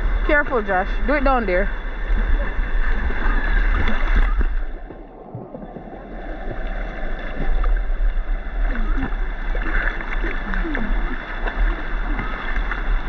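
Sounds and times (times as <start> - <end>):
river water flowing: 0.0 - 13.0
wind rumbling on microphone: 0.0 - 13.0.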